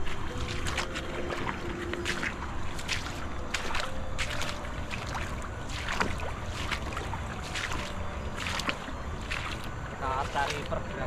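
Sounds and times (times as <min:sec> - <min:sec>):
footsteps on loose stones: 0:00.0 - 0:11.0.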